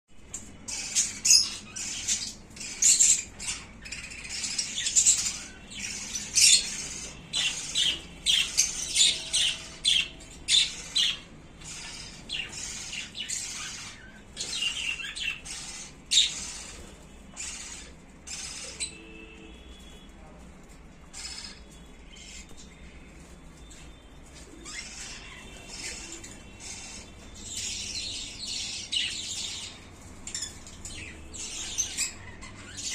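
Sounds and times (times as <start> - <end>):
budgerigars chattering and squawking: 0.3 - 19.1, 21.0 - 22.8, 24.4 - 32.9.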